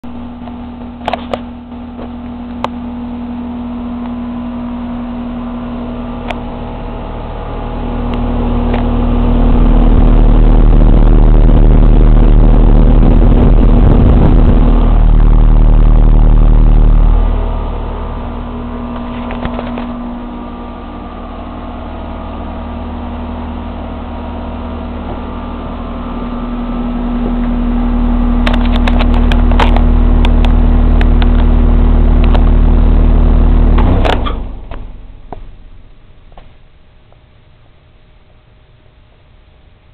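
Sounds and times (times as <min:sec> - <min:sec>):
deep rumble: 0:00.0 - 0:38.6
air conditioner compressor hum: 0:00.0 - 0:39.9
condenser fan air noise: 0:00.0 - 0:39.9.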